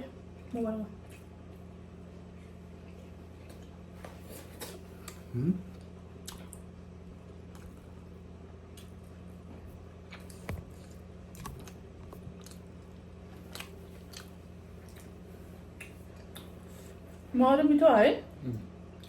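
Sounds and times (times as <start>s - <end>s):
steady low hum: 0.0s - 19.0s
chewing and biting dumplings: 1.0s - 17.3s.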